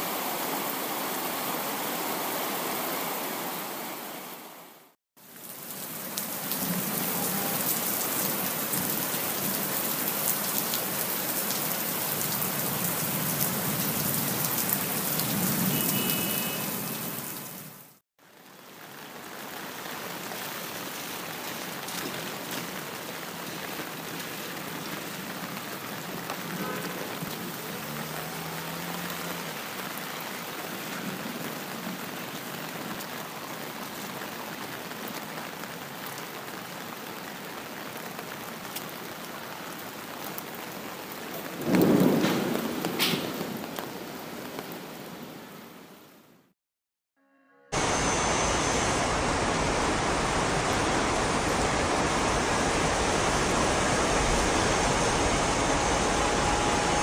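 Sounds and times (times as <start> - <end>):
steady rain falling: 0.0 - 46.2, 47.8 - 57.0.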